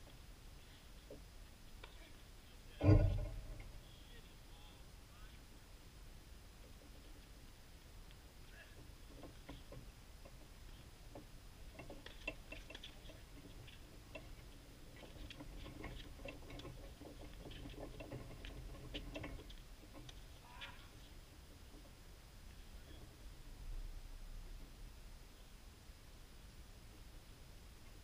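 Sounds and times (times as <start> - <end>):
faint irregular ticks and clicks: 0.0 - 5.6, 6.4 - 25.5.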